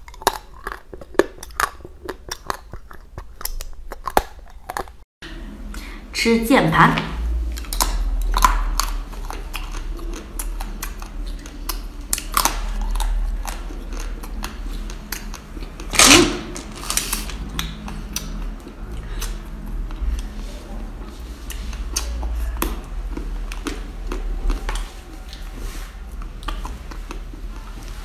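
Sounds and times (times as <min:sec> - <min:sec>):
chocolate candy crunching: 0:00.0 - 0:05.0, 0:07.5 - 0:25.5.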